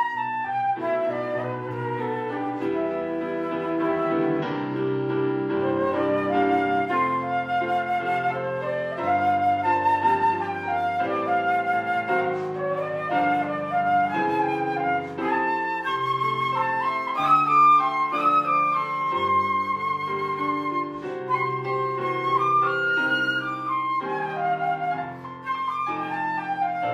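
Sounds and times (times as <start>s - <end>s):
flute melody with vibrato: 0.0s - 26.9s.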